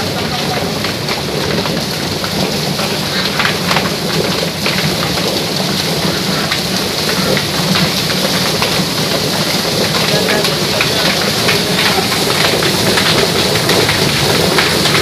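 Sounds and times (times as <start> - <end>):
defeathering machine drum churning: 0.0 - 15.0
hose spray splashing: 0.0 - 15.0.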